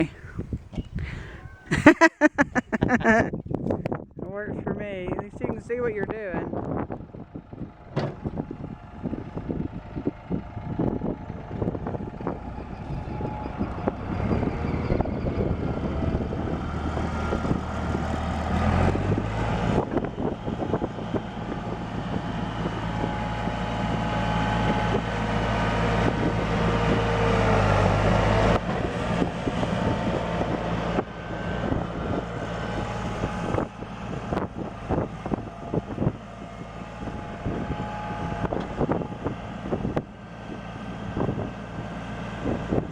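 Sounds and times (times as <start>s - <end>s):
diesel engine revving: 6.6s - 42.9s.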